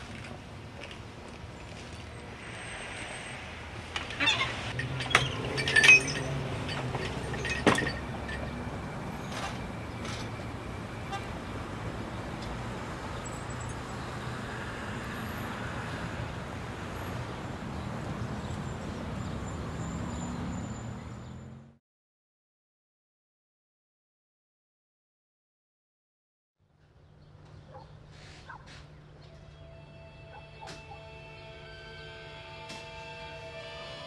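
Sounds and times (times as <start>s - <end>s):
hum of passing vehicles: 0.0s - 21.8s, 26.8s - 34.0s.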